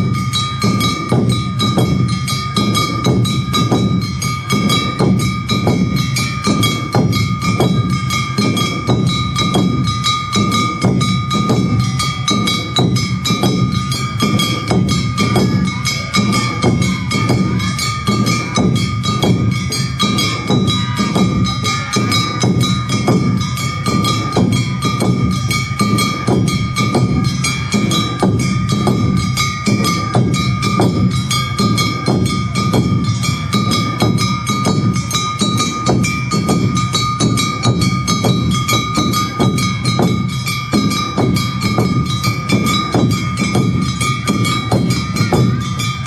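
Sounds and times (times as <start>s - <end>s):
drums and percussion rhythm: 0.0s - 46.0s
high held tones: 0.0s - 46.0s.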